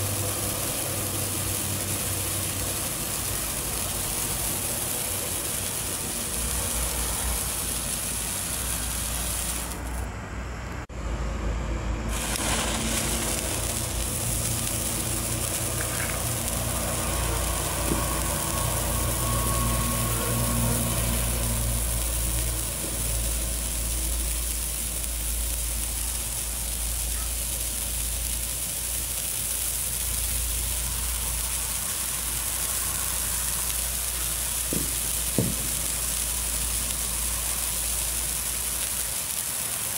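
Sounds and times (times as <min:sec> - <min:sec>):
fireworks fizzing hiss of sparks: 0:00.0 - 0:10.1, 0:12.1 - 0:39.9.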